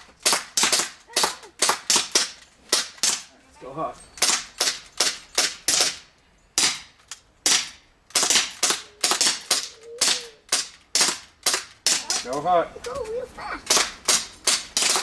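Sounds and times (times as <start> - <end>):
airsoft pistols firing: 0.0 - 3.3, 4.2 - 13.0, 13.6 - 15.0.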